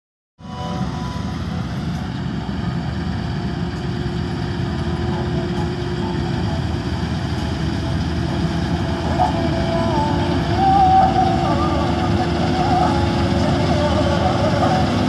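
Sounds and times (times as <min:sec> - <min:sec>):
combine harvester drone: 0:00.4 - 0:15.0.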